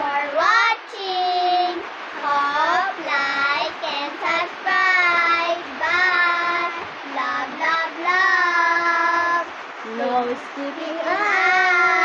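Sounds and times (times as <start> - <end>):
children singing: 0.0 - 9.5, 10.6 - 12.0.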